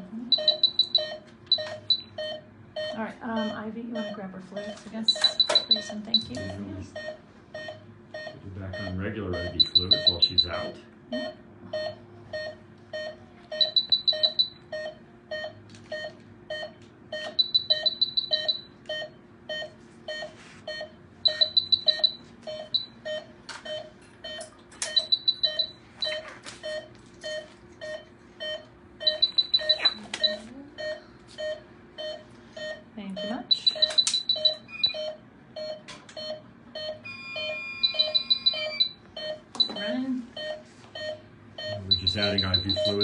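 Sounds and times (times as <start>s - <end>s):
patient monitor beeping: 0.3s - 43.0s
rapid high alarm beeps: 0.3s - 43.0s.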